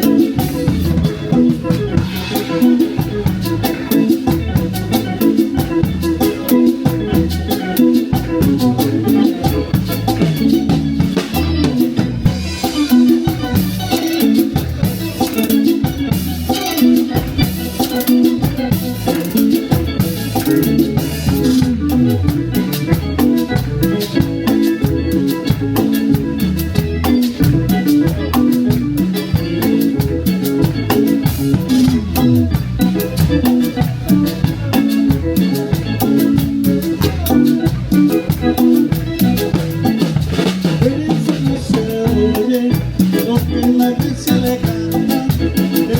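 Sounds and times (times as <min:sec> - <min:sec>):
live band playing latin music: 0:00.0 - 0:45.9.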